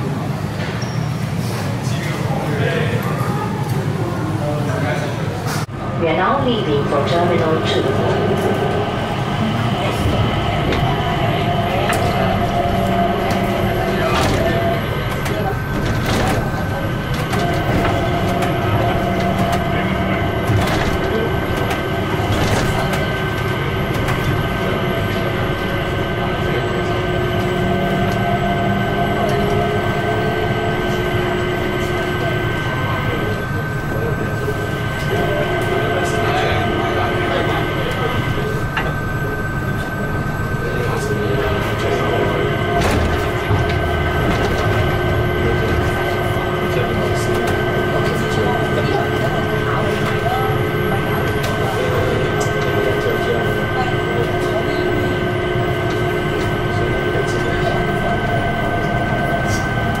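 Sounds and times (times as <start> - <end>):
train cabin low rumble: 0.0 - 60.0
constant whining tones: 5.7 - 60.0.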